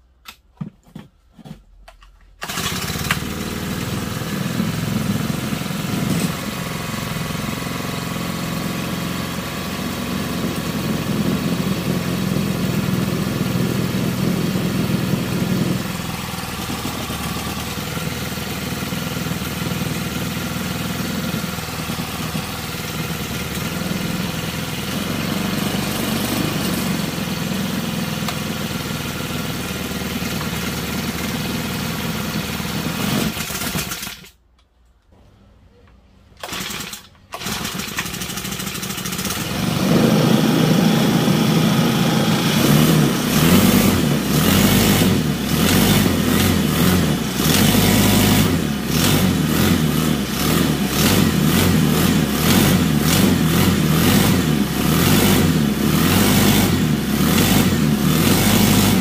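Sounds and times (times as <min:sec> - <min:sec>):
small engine running: 0:02.4 - 0:34.3, 0:36.4 - 0:59.0.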